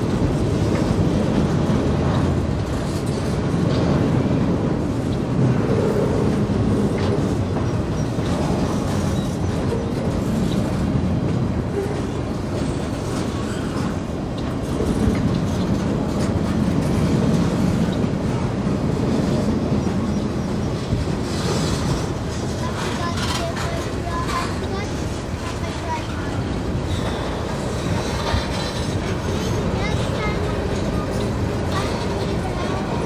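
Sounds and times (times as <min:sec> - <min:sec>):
freight train rolling: 0:00.0 - 0:33.0
wheels clicking over rail joints: 0:00.0 - 0:33.0.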